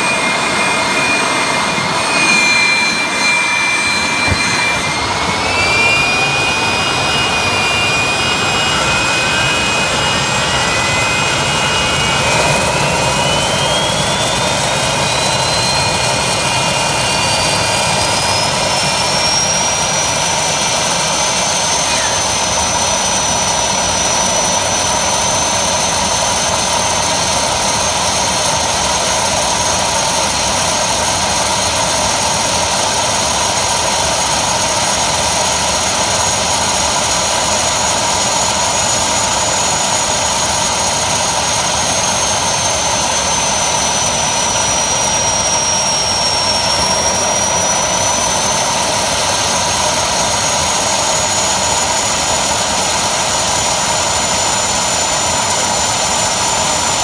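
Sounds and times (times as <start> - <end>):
turbojet engine whine: 0.0 - 57.0.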